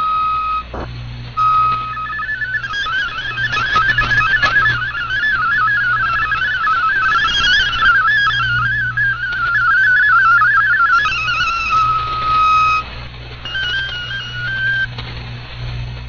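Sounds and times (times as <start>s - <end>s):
digital data signal tones: 0.0s - 14.9s
steady single tone: 0.0s - 14.9s
steady low hum: 0.0s - 16.0s.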